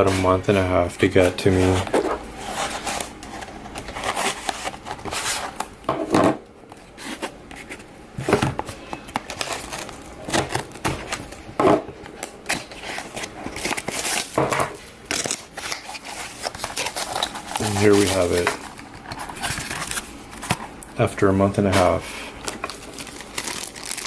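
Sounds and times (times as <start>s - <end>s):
packaging crinkling and rustling: 0.0s - 5.9s, 6.6s - 24.0s.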